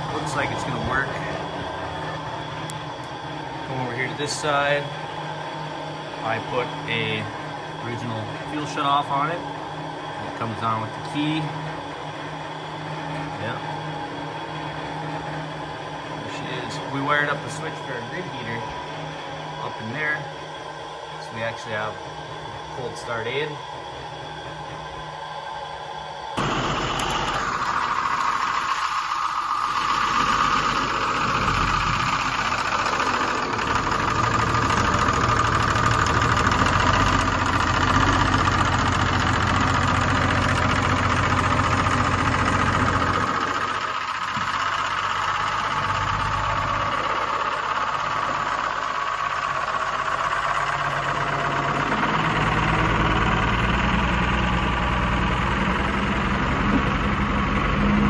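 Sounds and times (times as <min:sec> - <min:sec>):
diesel engine idling: 0:00.0 - 0:25.2, 0:26.4 - 0:58.0
high whine: 0:00.0 - 0:58.0.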